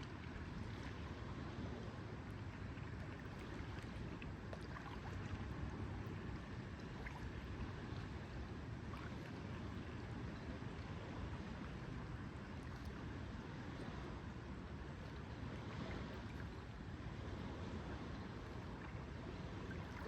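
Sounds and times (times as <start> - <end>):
lake water lapping: 0.0 - 20.0.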